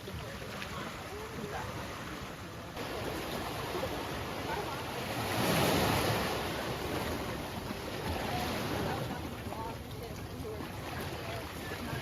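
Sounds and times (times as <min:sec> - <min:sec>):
ocean waves washing in: 0:00.0 - 0:12.0.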